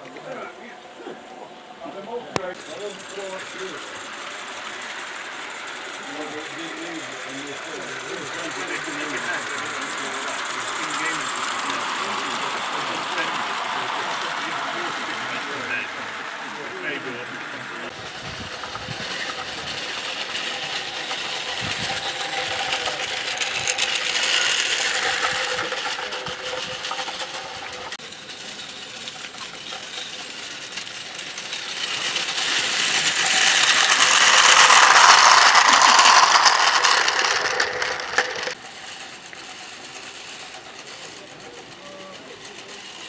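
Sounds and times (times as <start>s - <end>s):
model steam locomotive running: 0.0s - 43.0s.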